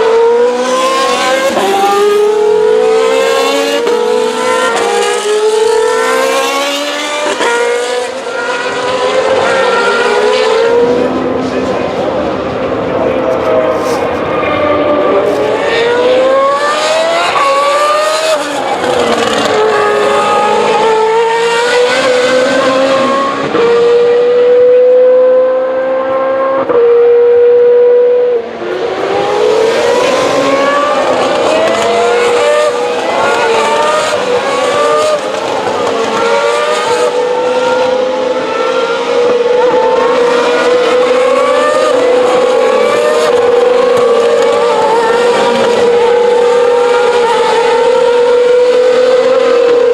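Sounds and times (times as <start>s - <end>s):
racing car engines revving: 0.0s - 49.9s.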